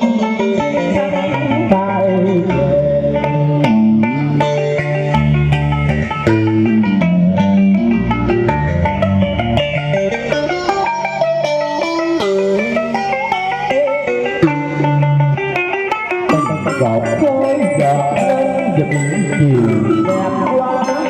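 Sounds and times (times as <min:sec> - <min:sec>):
bass notes: 0:00.0 - 0:21.0
electric guitar melody: 0:00.0 - 0:21.0.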